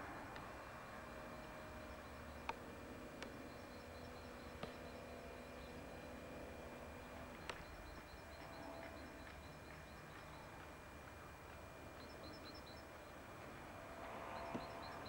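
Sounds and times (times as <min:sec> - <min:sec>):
distant bird chirping: 0:00.0 - 0:15.0
low hum: 0:00.0 - 0:15.0
tape hiss: 0:00.0 - 0:15.0.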